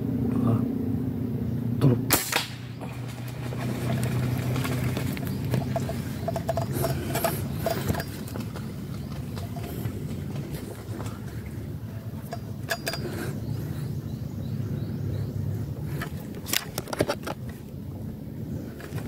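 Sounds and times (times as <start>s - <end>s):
low motor drone: 0.0s - 19.0s.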